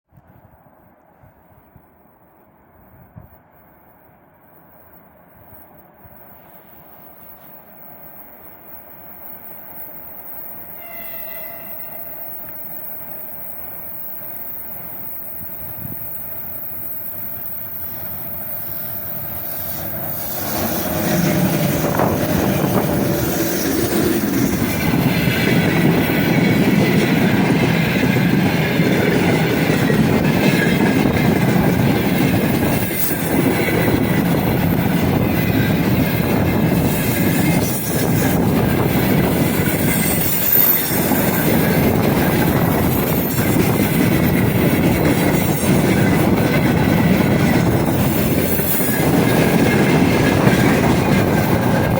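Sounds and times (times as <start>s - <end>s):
train wheels clattering over rails: 6.0s - 51.9s.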